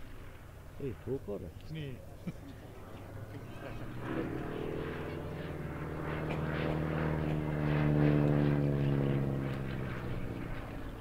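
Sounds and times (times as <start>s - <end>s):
radial aircraft engine droning: 0.0s - 11.0s.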